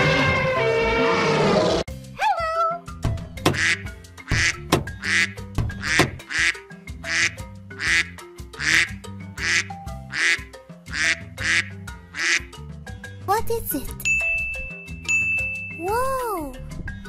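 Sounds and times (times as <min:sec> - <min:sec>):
bouncy children's music: 0:01.9 - 0:17.0.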